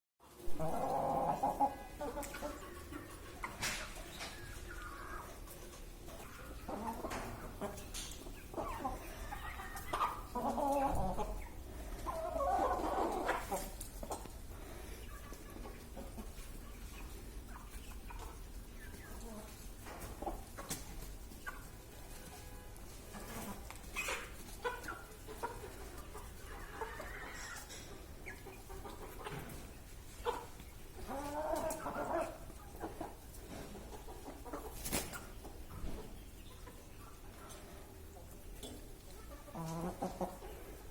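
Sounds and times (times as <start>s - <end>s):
chickens calling and clucking: 0.3s - 40.9s.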